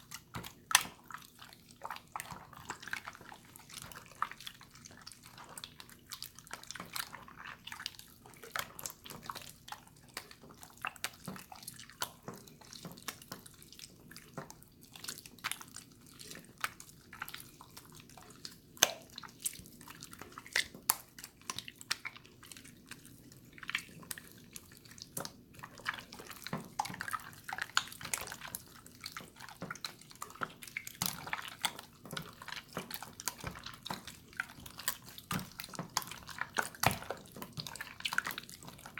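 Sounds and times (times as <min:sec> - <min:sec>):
wet slime squelches and pops: 0:00.0 - 0:38.9.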